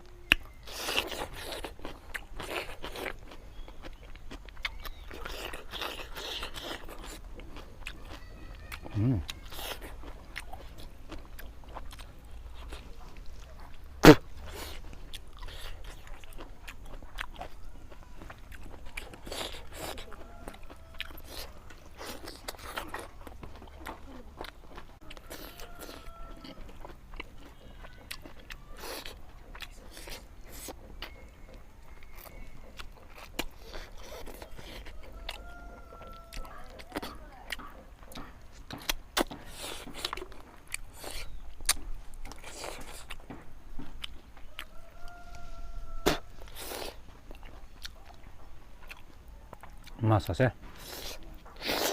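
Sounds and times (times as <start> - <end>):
chewing and mouth smacking: 0.0 - 51.9.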